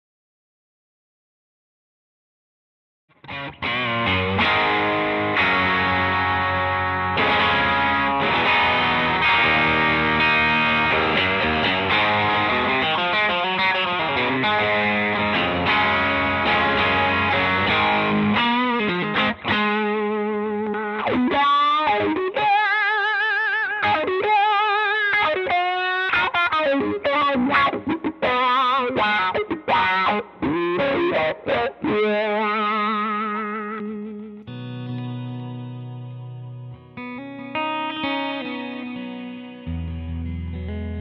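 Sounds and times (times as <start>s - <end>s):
electric guitar playing: 3.1s - 41.0s.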